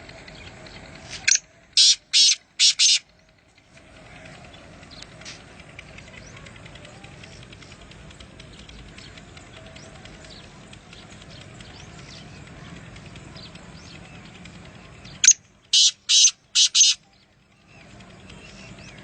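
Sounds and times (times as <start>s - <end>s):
loud harsh bird calls: 0.0s - 19.0s
small birds chirping: 0.0s - 19.0s.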